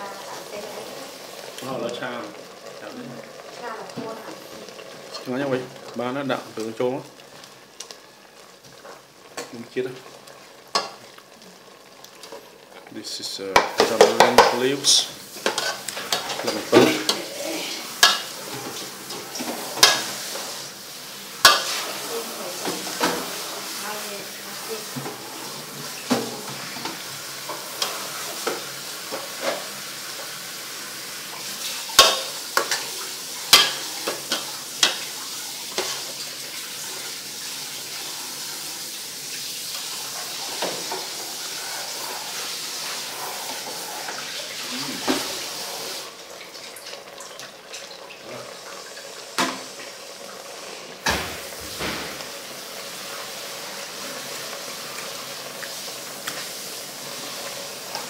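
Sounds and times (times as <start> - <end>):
food sizzling in a pot: 0.0 - 58.0.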